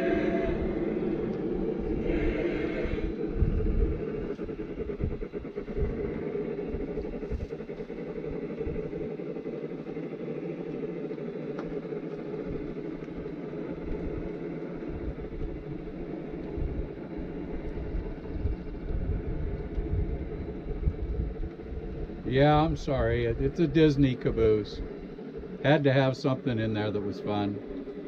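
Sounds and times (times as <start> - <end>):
model train wheels rumbling on rails: 0.0 - 28.0.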